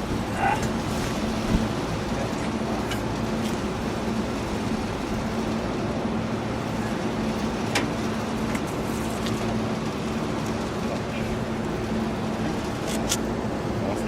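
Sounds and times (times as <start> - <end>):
air conditioning unit humming: 0.0 - 14.0.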